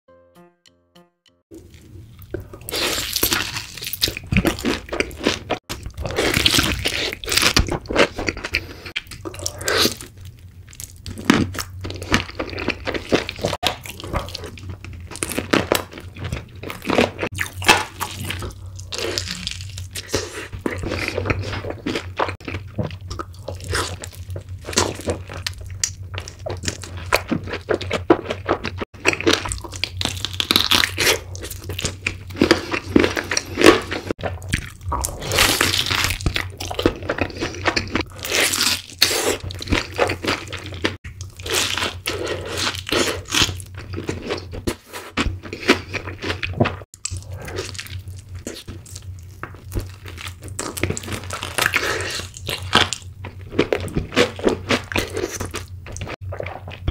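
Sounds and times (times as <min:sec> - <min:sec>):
crunching and chewing crispy food: 0:01.5 - 0:56.9.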